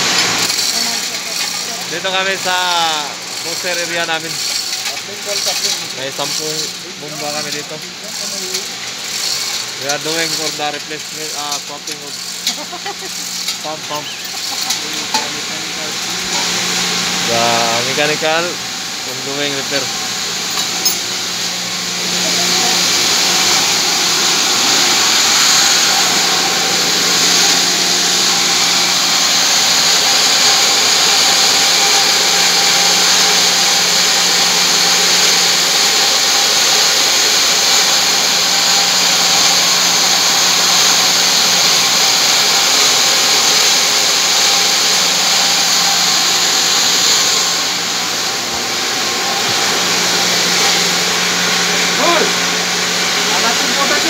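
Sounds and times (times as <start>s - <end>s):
water pumps running: 0.0s - 54.0s.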